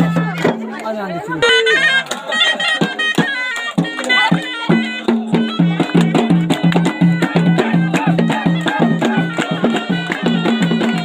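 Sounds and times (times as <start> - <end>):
shawm playing folk melody: 0.0 - 11.0
fast steady drum beat: 1.4 - 11.0.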